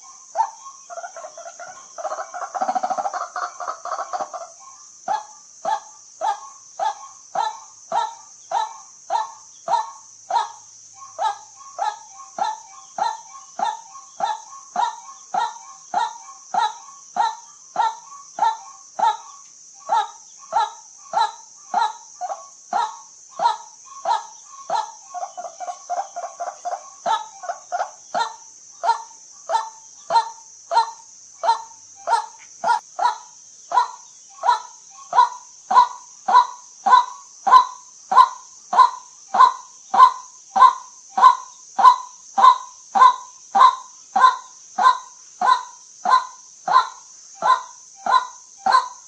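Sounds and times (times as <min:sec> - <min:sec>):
steady high hiss: 0:00.0 - 0:49.0.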